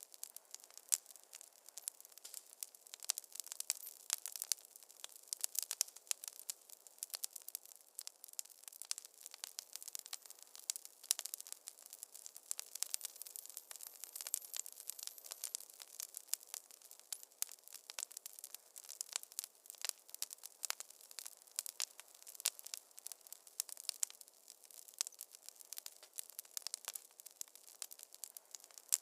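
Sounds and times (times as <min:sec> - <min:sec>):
faint fire hiss: 0:00.0 - 0:29.0
wood fire crackling: 0:00.0 - 0:29.0.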